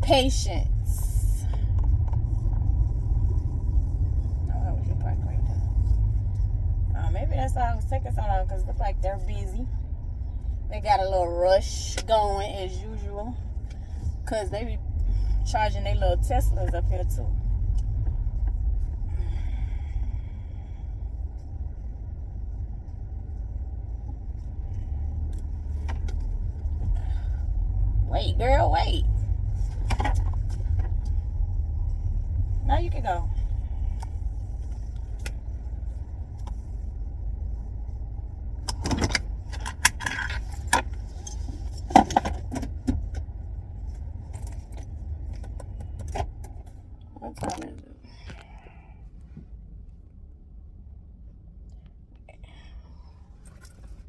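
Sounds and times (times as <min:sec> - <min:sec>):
car cabin rumble: 0:00.0 - 0:54.0.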